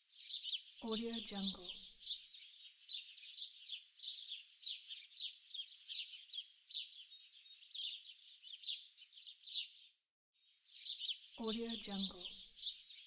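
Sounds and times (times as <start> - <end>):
small songbirds chirping: 0.0 - 13.0.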